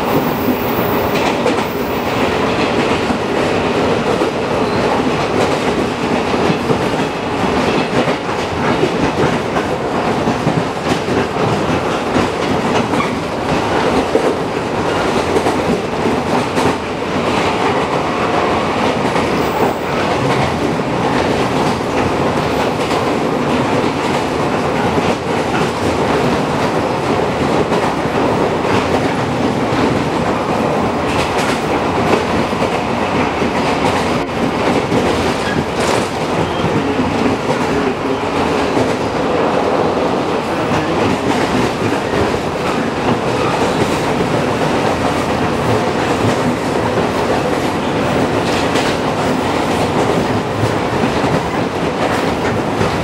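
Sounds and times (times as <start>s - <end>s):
rail joint clicks: 0.0s - 53.0s
train wheels rumbling on rail: 0.0s - 53.0s.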